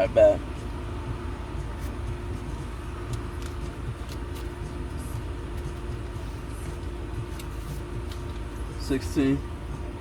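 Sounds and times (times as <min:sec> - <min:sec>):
car engine and cabin rumble: 0:00.0 - 0:10.0.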